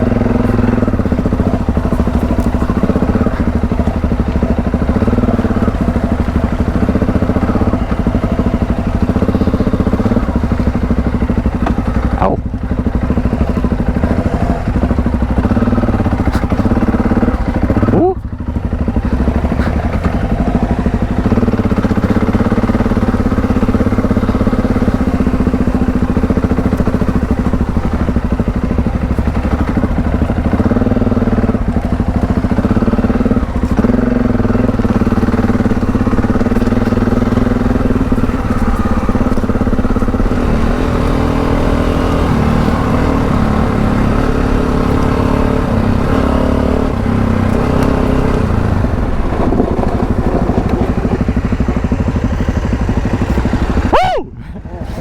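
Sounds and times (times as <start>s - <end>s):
motorcycle engine under load: 0.0s - 55.0s.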